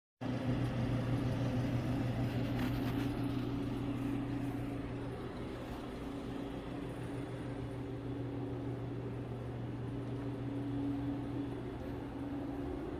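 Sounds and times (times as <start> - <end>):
refrigeration unit humming: 0.2 - 12.9.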